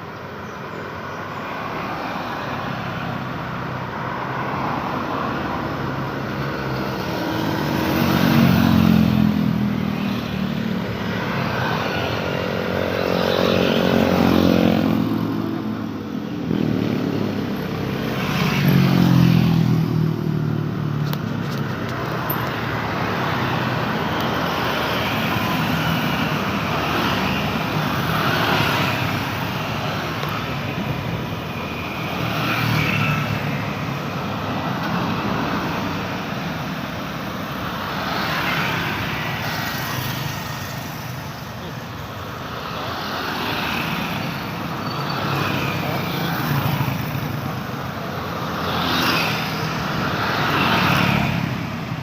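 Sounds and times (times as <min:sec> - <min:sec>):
road traffic: 0:00.0 - 0:52.0
vehicles passing close by: 0:00.0 - 0:52.0.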